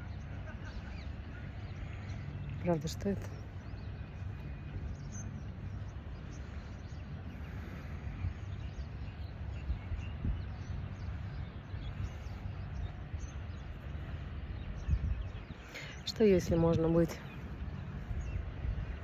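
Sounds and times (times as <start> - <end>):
wind and sea rushing: 0.0 - 19.0.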